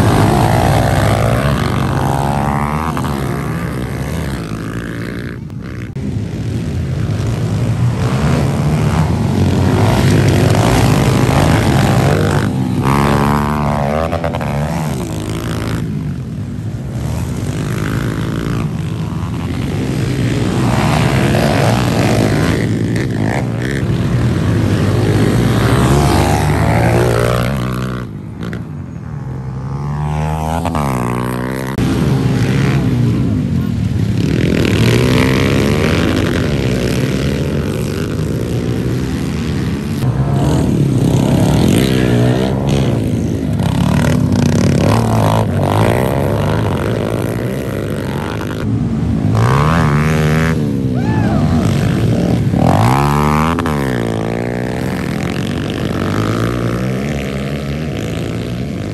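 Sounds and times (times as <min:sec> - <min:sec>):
pit bike engines revving past: 0:00.0 - 0:58.9.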